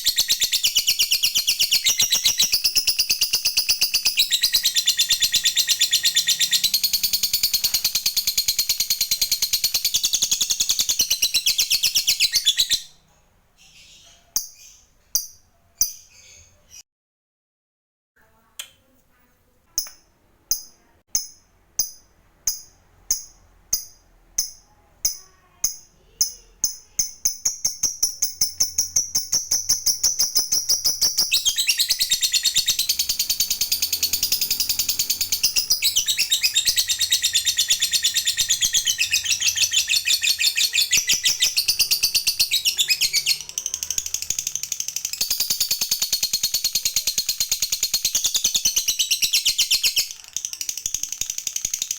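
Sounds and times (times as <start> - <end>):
lovebird chattering trill: 0.0 - 12.9, 22.5 - 51.9.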